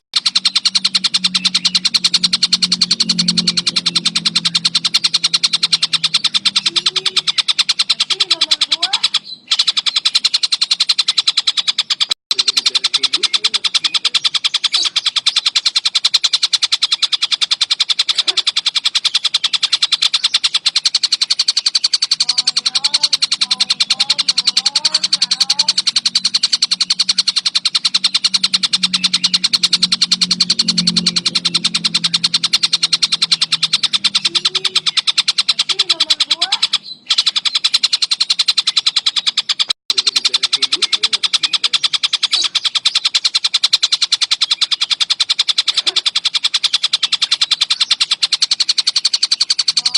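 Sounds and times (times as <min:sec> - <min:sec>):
kingfisher rattling trill: 0:00.0 - 0:49.9.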